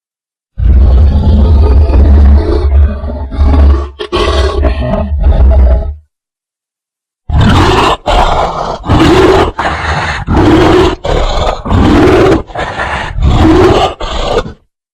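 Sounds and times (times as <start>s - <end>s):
cartoon bear growling roars: 0.6s - 6.0s, 7.3s - 14.7s.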